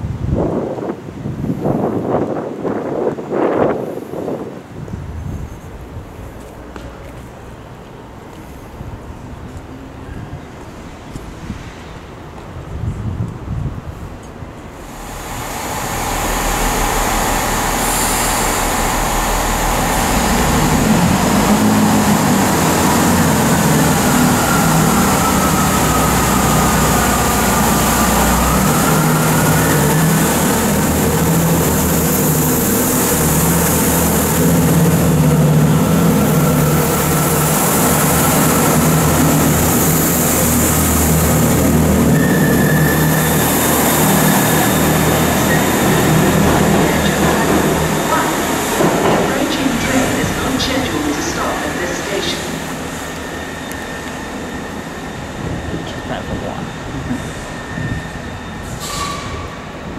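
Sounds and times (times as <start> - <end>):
train diesel engines running: 0.4 - 59.9.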